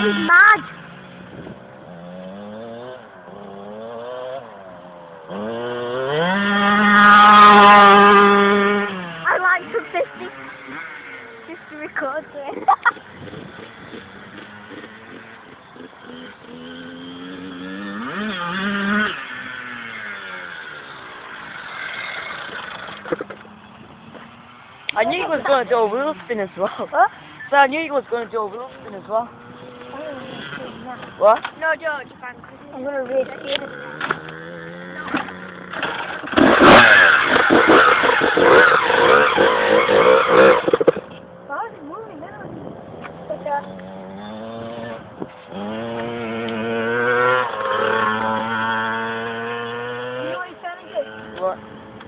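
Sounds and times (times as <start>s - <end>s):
motorbike engine revving: 0.0s - 52.0s.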